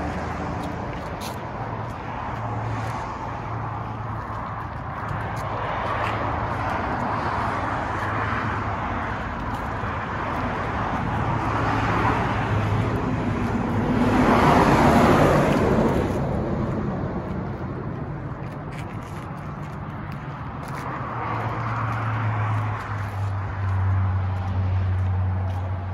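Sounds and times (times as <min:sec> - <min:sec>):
highway traffic passing: 0:00.0 - 0:25.9.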